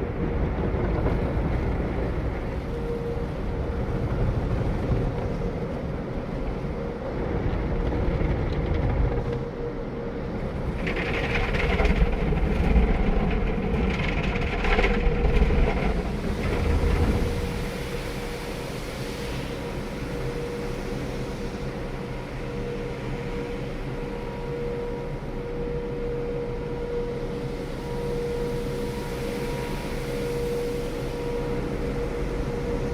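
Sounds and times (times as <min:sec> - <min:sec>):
car wash machinery rumbling: 0:00.0 - 0:32.9.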